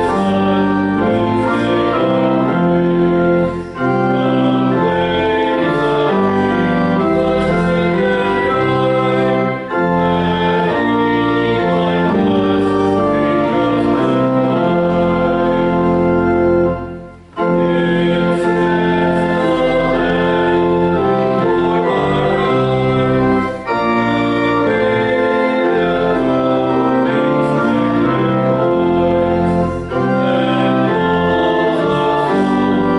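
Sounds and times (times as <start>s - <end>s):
church organ chords: 0.0s - 32.9s.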